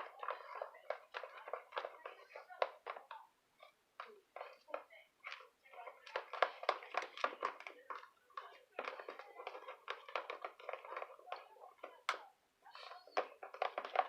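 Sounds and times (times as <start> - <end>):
spoon stirring slime in bowl: 0.0 - 14.0.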